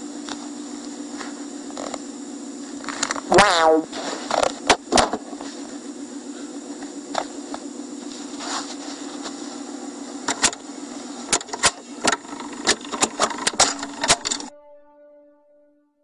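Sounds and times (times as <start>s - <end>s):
electrical hum and hiss: 0.0s - 14.5s.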